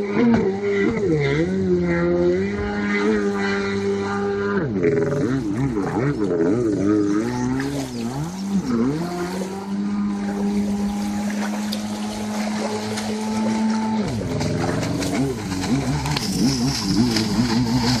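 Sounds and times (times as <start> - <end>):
personal watercraft engine running: 0.0 - 18.0.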